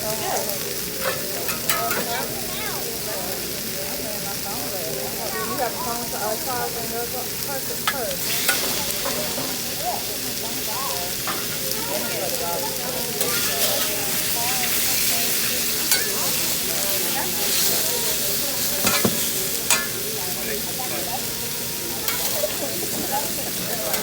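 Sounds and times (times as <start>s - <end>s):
food sizzling on a griddle: 0.0s - 24.0s.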